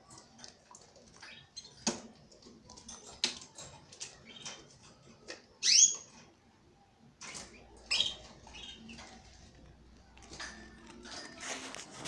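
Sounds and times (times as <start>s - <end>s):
canary chirp: 0.0s - 11.5s.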